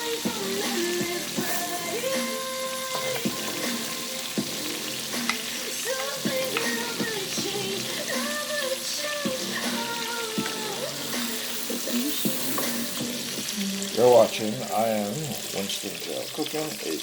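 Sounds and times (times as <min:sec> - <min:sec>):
garlic sizzling in butter: 0:00.0 - 0:17.0.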